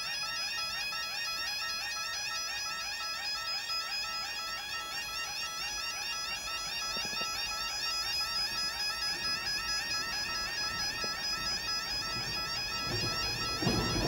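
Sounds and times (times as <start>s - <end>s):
two-tone electronic warning alarm: 0.0s - 14.0s.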